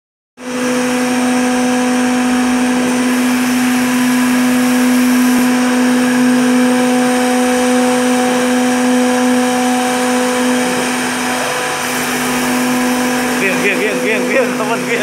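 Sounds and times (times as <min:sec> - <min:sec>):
machine motors humming: 0:00.4 - 0:15.0.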